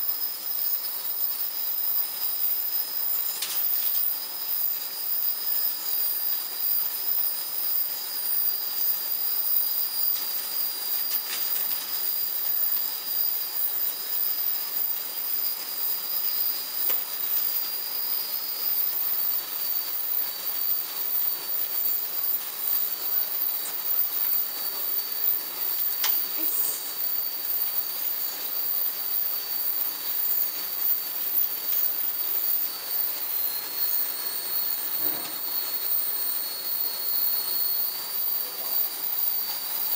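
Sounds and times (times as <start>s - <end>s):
hiss of moving air: 0.3s - 39.9s.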